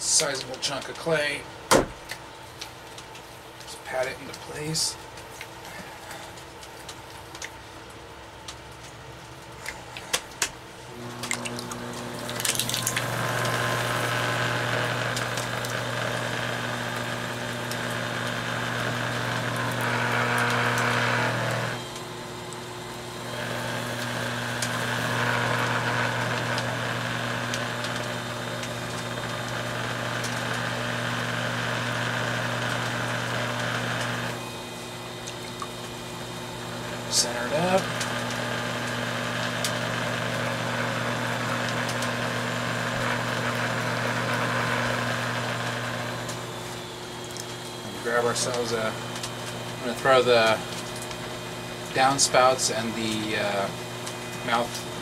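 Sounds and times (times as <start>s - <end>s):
potter's wheel motor humming: 10.8s - 55.0s.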